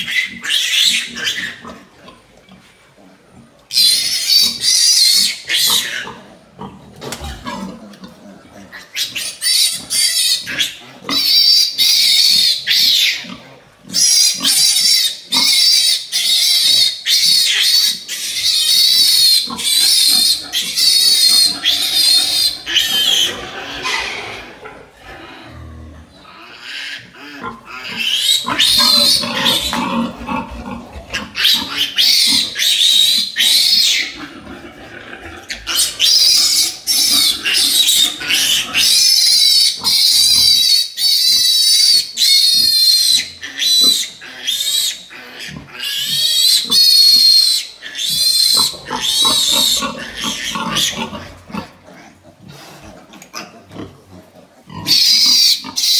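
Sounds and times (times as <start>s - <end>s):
piglets squealing: 0.0s - 1.8s, 3.7s - 6.3s, 8.7s - 25.4s, 26.2s - 55.9s.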